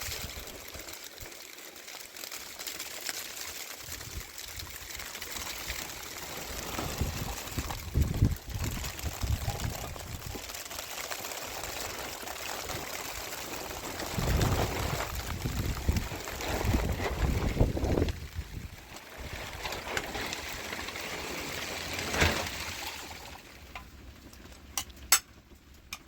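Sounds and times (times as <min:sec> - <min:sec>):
water pouring and trickling: 0:00.0 - 0:25.3.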